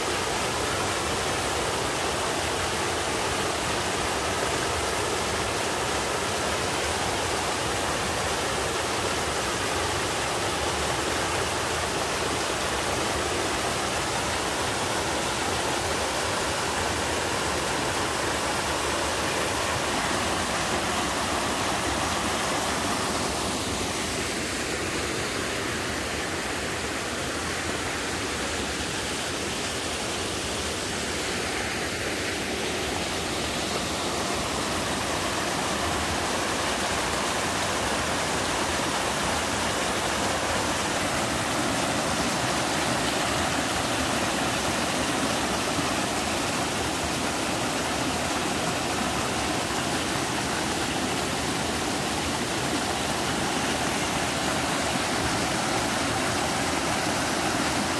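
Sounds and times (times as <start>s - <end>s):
stream rushing over boulders: 0.0s - 57.9s.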